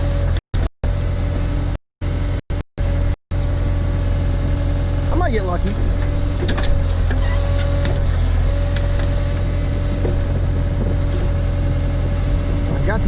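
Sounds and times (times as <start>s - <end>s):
backhoe engine running: 0.0s - 13.0s
steady whine: 0.0s - 13.0s.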